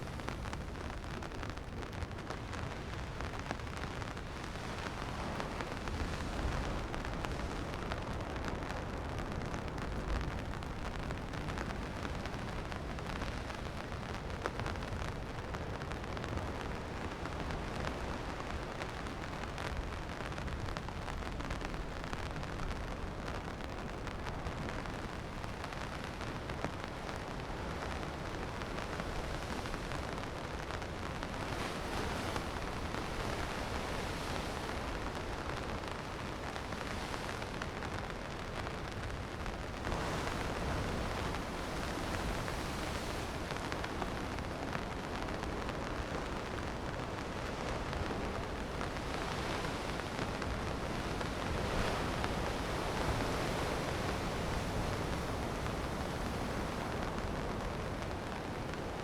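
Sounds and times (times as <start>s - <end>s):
low rain rumble: 0.0s - 59.0s
rain drops ticking: 0.0s - 59.0s.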